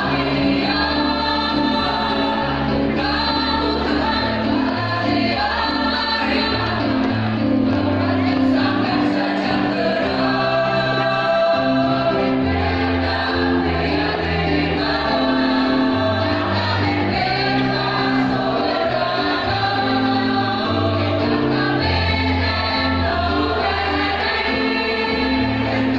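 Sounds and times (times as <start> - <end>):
choir singing: 0.0 - 25.9.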